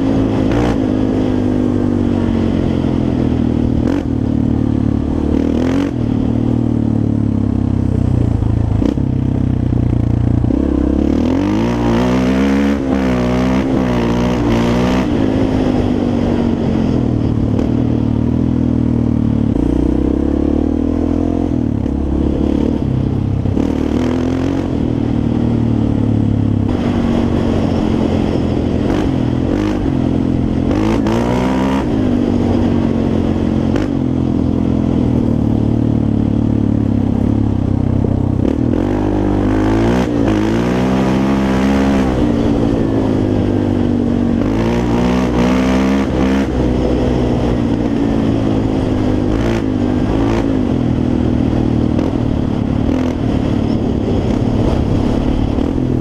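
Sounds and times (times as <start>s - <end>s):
quad engine revving: 0.0s - 6.4s, 10.4s - 16.8s, 19.5s - 25.3s, 26.7s - 35.3s, 38.3s - 56.0s.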